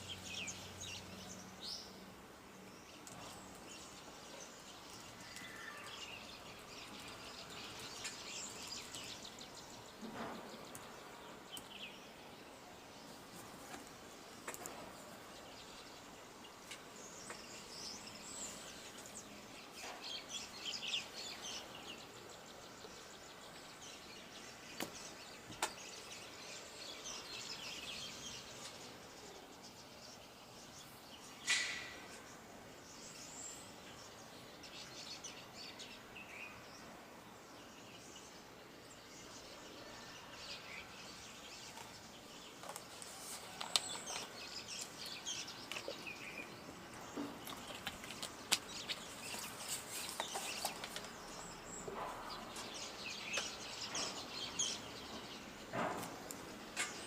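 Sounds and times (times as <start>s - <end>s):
birds chirping and twittering: 0.0s - 57.0s
faint outdoor hiss: 0.0s - 57.0s.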